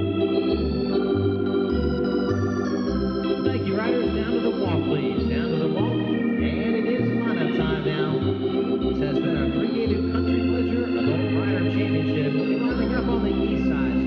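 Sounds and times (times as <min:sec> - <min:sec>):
organ music: 0:00.0 - 0:14.0.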